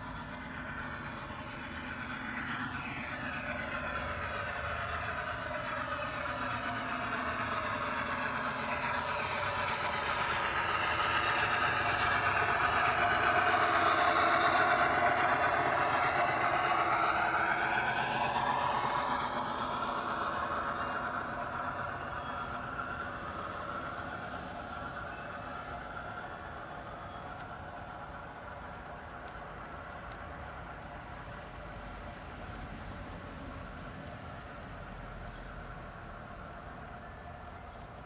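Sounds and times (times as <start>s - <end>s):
model train running on track: 0.0s - 38.0s.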